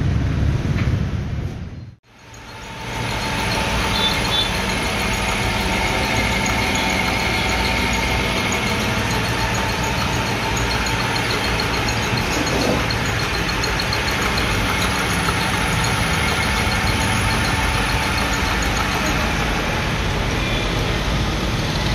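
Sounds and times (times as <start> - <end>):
metalworking machine running: 2.0 - 21.9
fast even ticking: 2.1 - 20.1.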